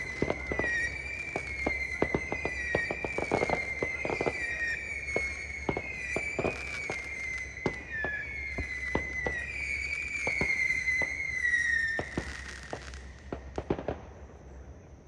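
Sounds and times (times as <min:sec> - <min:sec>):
fireworks pops and cracks: 0:00.0 - 0:14.8
fireworks whistling: 0:00.0 - 0:14.8.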